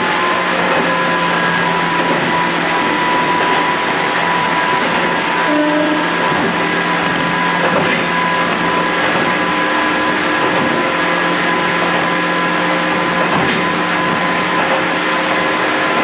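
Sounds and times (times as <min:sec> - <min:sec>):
motor and gear hum: 0:00.0 - 0:16.0
train wheels rumbling on rail: 0:00.0 - 0:16.0.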